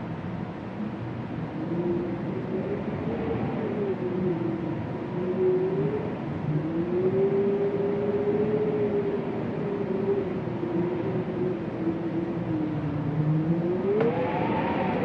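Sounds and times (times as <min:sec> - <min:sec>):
low rush of wind: 0:00.0 - 0:15.0
wind moaning: 0:01.2 - 0:15.0.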